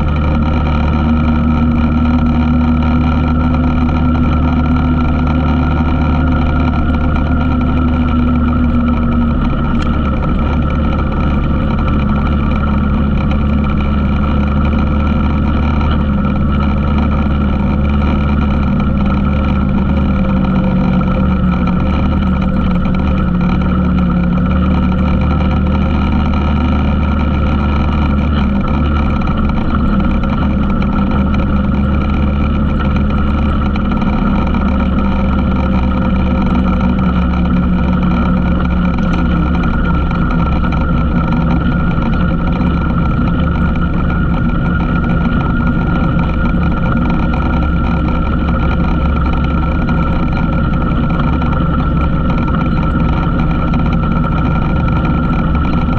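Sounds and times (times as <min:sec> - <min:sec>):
atv engine droning: 0:00.0 - 0:55.9.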